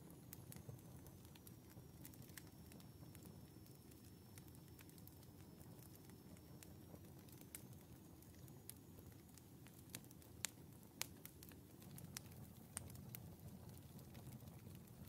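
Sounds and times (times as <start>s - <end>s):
logs crackling in wood stove: 0.0s - 15.0s.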